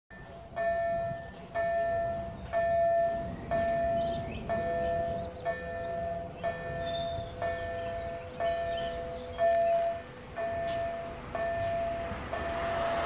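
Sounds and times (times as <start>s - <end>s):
level crossing bell ringing: 0.1s - 12.8s.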